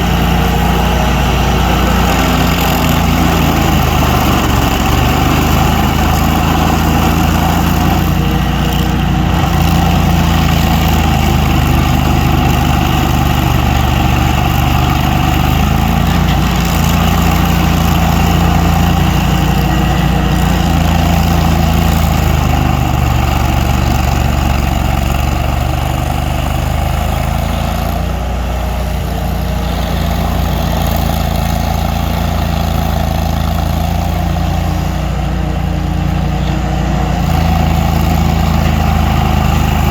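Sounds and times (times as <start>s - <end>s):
large engine running at low speed: 0.0s - 39.9s.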